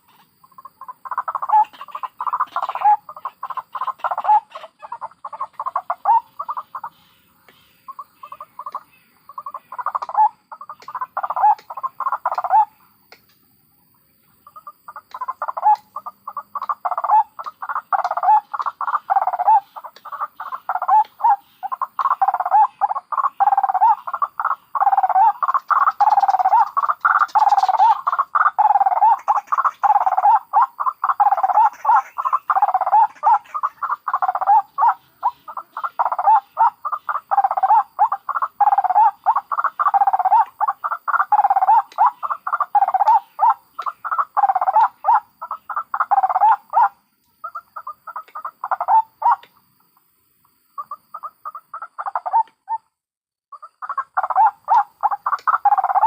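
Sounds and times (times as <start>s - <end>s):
waterhens calling rapidly: 0.0s - 12.8s, 14.4s - 49.5s, 50.8s - 52.8s, 53.5s - 56.0s.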